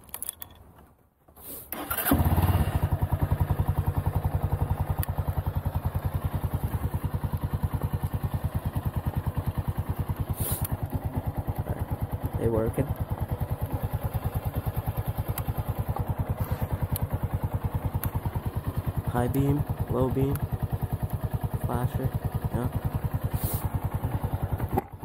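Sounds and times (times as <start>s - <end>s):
motorcycle engine idling: 1.8s - 25.0s.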